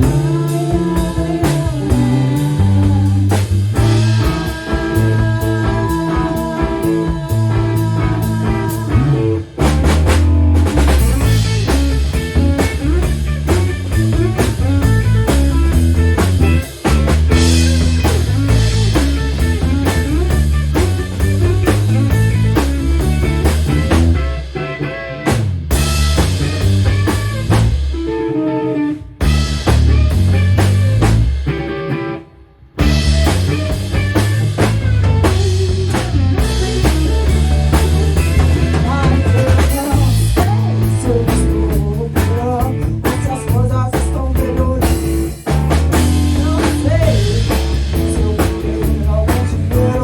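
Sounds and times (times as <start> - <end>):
drum kit beat: 0.0 - 28.2, 29.2 - 31.9, 32.8 - 50.0
bass guitar: 0.0 - 50.0
electric guitar: 0.0 - 50.0.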